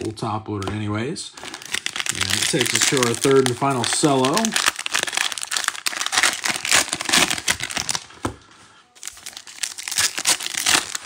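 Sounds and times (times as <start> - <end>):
plastic wrapper crinkling: 0.0 - 8.3, 9.0 - 11.0.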